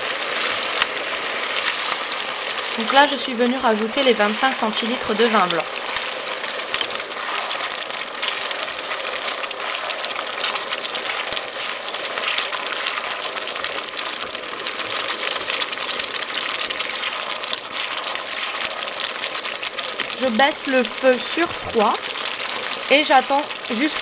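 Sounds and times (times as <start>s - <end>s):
rice sizzling and bubbling in pan: 0.0s - 24.0s
wooden spatula stirring: 0.0s - 24.0s.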